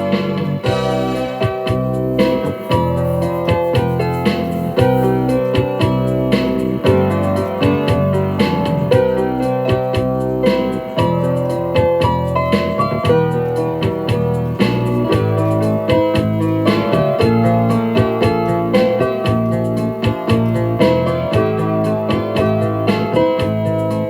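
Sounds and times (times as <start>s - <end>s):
keyboard music with steady beat: 0.0s - 24.0s.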